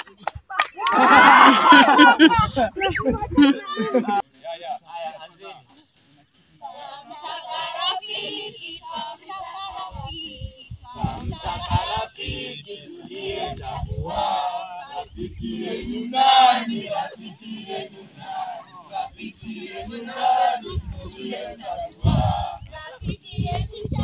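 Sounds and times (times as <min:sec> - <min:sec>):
young people singing and chanting: 0:00.0 - 0:24.0.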